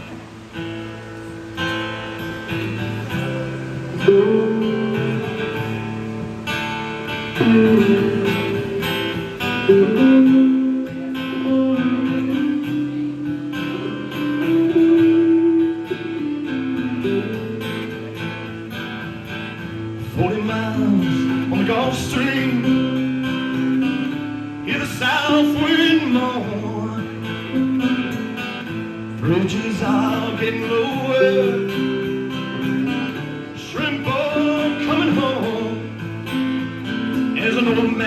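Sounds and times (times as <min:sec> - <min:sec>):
guitar chords and melody: 0:00.0 - 0:38.0.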